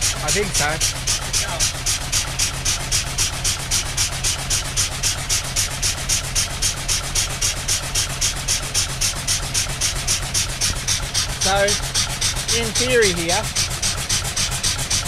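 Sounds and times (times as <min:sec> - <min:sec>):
steam engine puffing: 0:00.0 - 0:15.0.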